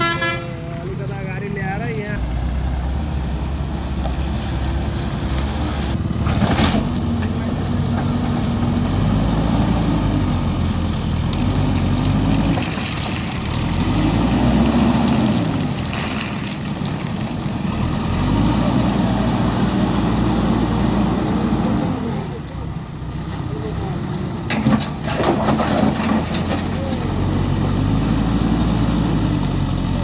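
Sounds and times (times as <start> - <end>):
diesel engine working under load: 0.0 - 30.0.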